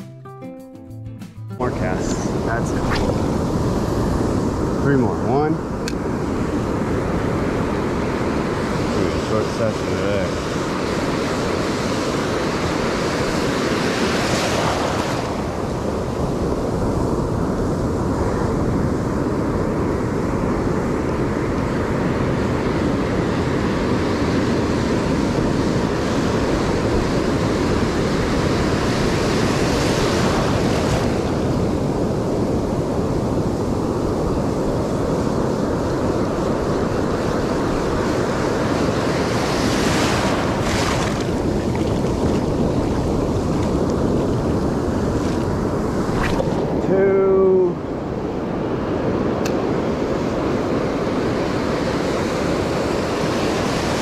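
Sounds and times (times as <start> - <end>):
ocean surf breaking: 1.6 - 54.0
wind buffeting microphone: 1.7 - 54.0.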